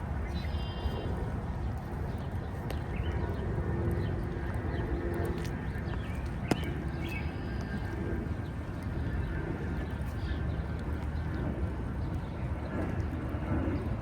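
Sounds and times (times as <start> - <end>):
footsteps on wet path: 0.2 - 13.0.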